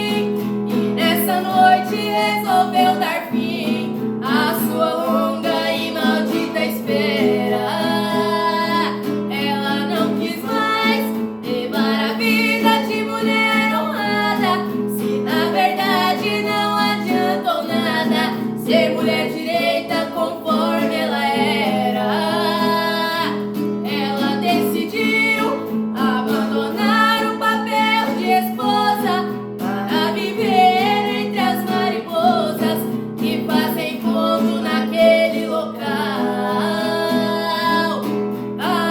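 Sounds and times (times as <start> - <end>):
plucked acoustic strings: 0.0 - 38.9
woman singing: 0.0 - 38.9.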